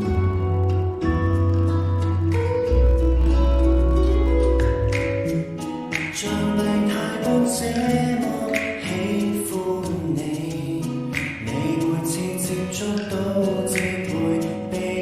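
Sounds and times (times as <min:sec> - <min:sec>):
pop song through speakers: 0:00.0 - 0:15.0.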